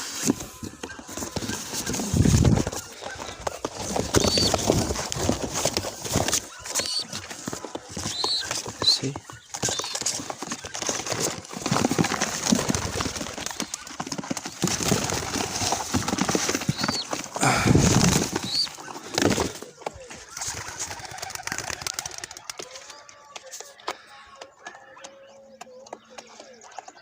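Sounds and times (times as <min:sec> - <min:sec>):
pigeon wings flapping: 0:00.1 - 0:23.0.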